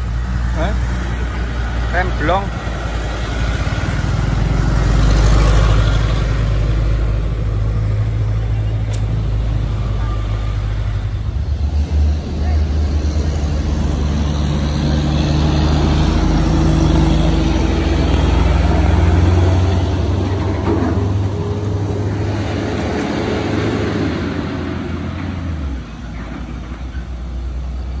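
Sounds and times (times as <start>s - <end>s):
diesel vehicles passing: 0.0s - 28.0s.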